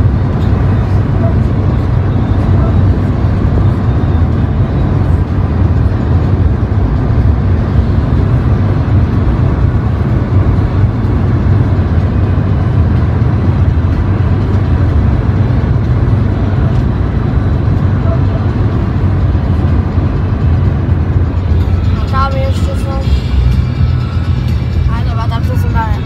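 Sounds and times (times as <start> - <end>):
car road and tyre noise: 0.0 - 26.0.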